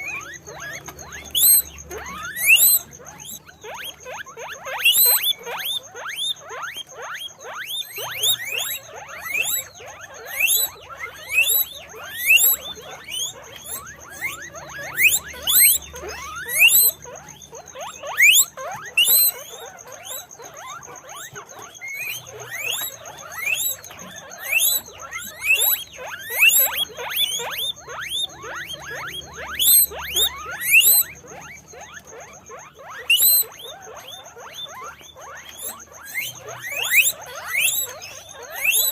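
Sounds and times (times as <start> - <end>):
guinea pigs squeaking: 0.0 - 38.9.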